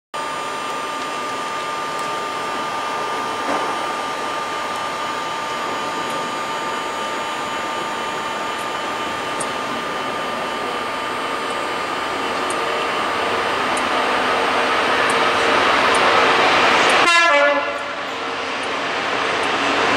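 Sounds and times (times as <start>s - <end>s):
electric train humming and whining: 0.2s - 19.9s.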